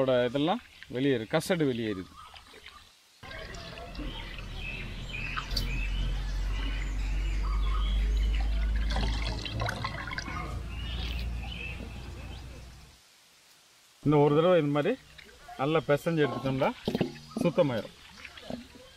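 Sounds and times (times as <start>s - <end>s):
water splashing and squelching: 0.0s - 12.8s, 14.4s - 18.9s
small birds chirping: 0.0s - 13.0s, 14.4s - 18.9s.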